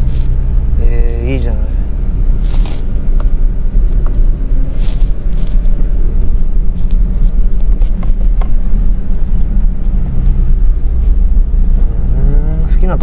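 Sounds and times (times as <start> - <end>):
car cabin engine and tyre rumble: 0.0 - 13.0.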